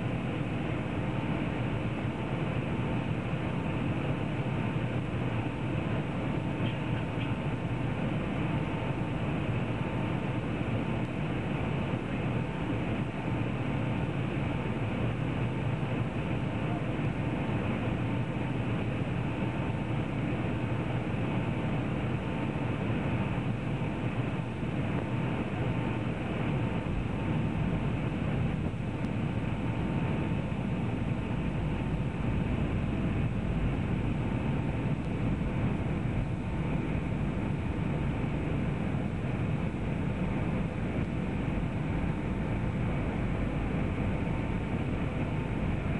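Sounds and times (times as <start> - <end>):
faint steady tone: 0.0 - 45.9
jet engine and airflow rush: 0.0 - 45.9.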